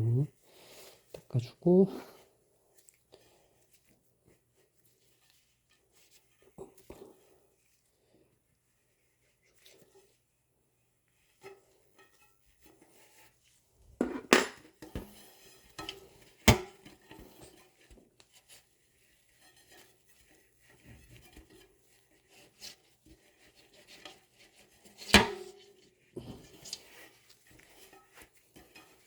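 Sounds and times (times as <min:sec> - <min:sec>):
rubbing and handling noises: 0:02.1 - 0:29.0.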